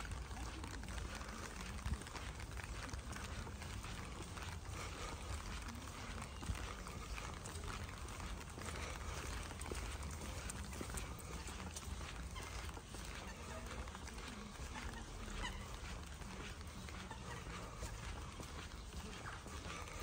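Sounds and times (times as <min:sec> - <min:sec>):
light rain patter: 0:00.0 - 0:20.0.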